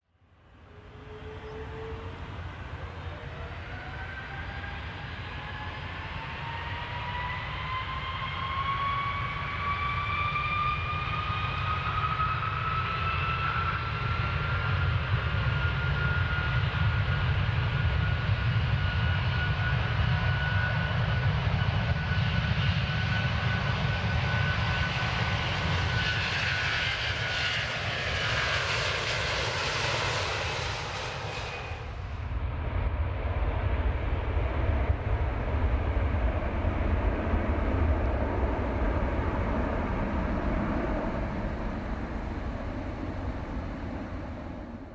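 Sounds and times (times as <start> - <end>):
airplane engines whining: 0.2 - 44.9.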